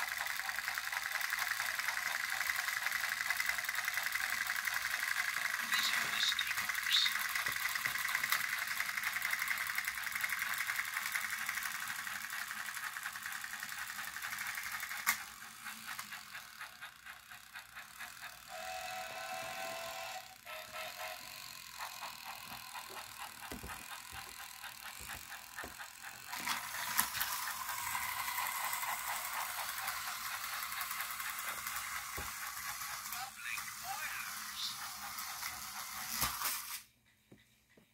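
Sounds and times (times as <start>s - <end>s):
toy train gears clicking: 0.0s - 37.8s
toy train motor whirring: 0.0s - 37.9s.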